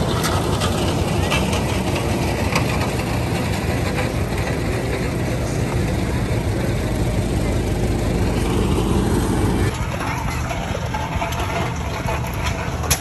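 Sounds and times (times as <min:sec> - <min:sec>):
old car engines rumbling: 0:00.0 - 0:13.0.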